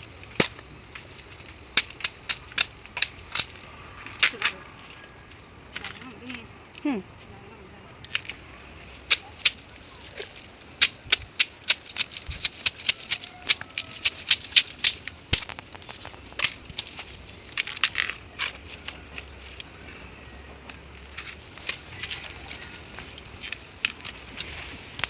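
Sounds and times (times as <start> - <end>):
sharp crackling snaps: 0.0 - 6.8, 9.0 - 19.8, 20.7 - 25.0.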